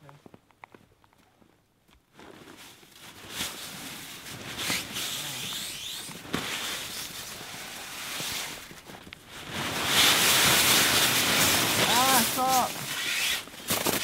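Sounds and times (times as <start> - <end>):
tent fabric rustling: 2.1 - 14.0
hands brushing snow off tent: 2.3 - 14.0.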